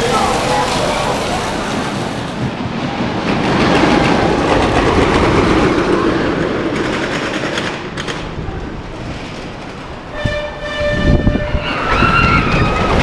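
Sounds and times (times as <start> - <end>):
ride train rattling on track: 0.0 - 13.0.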